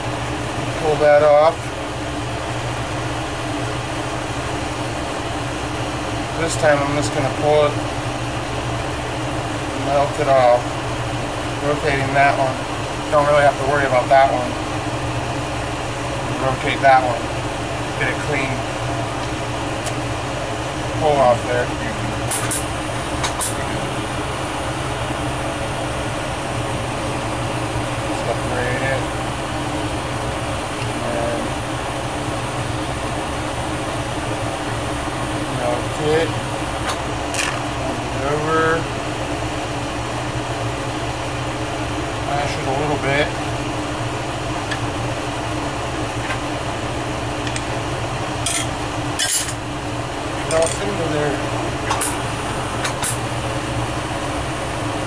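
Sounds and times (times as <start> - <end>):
torch flame hissing: 0.0 - 55.0.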